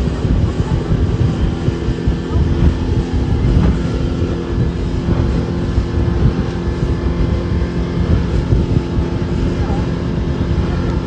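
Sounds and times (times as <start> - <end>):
motorboat engine drone: 0.0 - 11.0
water rushing along hull: 0.0 - 11.0
wind buffeting microphone: 0.0 - 11.0.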